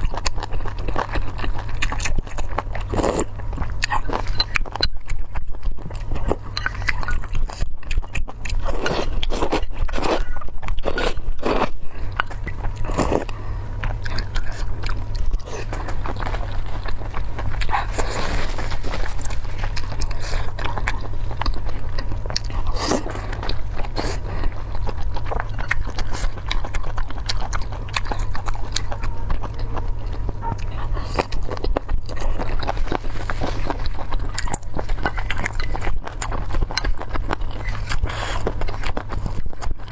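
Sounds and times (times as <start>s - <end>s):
crunchy biting and chewing: 0.0s - 39.9s
steady low hum: 0.0s - 39.9s.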